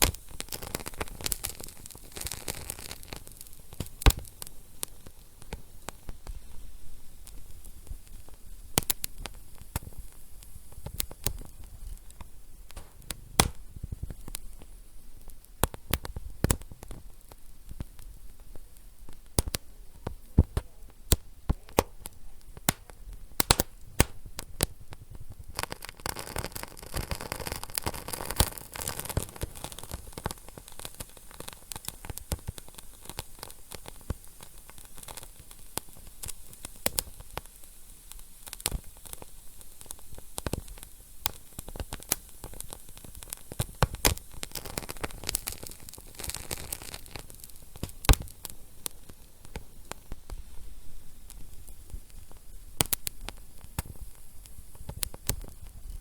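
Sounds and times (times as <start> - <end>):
low fire hiss: 0.0 - 56.0
wood fire popping and crackling: 0.0 - 56.0.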